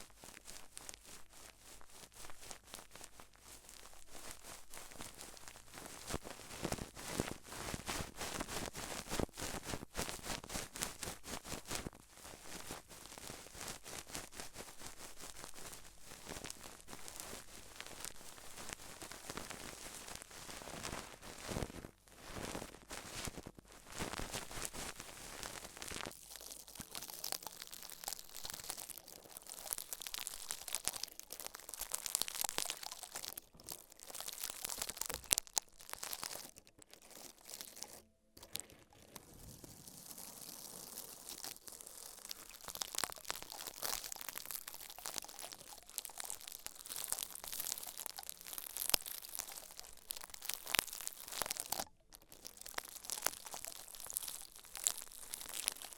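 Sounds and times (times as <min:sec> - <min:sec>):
close crinkling and crunching: 0:00.0 - 0:55.9.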